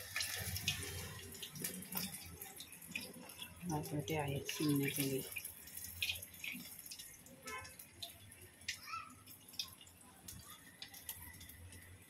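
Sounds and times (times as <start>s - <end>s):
wet squelches of batter: 0.0s - 12.0s.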